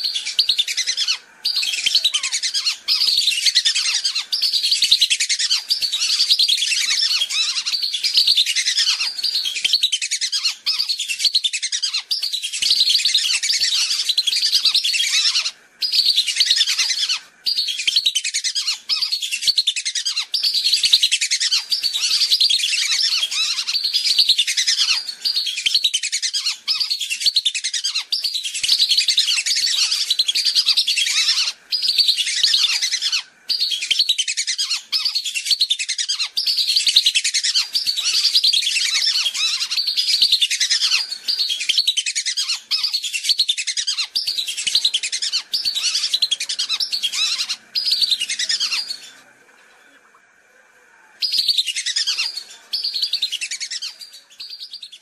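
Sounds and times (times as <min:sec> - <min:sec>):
ducks whistling calls: 0:00.0 - 0:50.2, 0:51.2 - 0:55.0.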